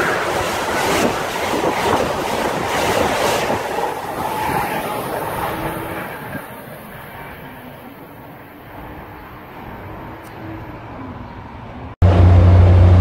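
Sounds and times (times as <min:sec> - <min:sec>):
train roaring past: 0:00.0 - 0:13.0.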